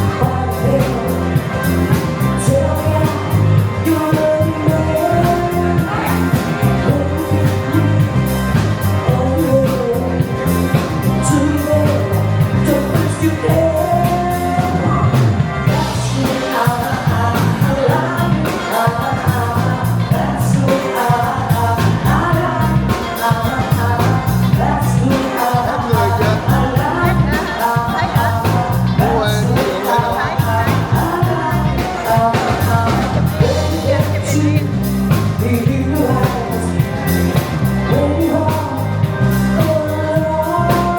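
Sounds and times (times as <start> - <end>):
person singing: 0.0 - 40.9
upbeat rock and roll music: 0.0 - 40.9.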